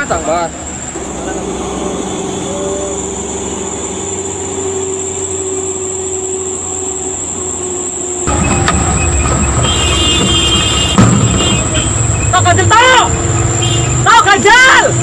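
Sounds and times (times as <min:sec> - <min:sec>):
steady vehicle rumble: 0:00.0 - 0:15.0.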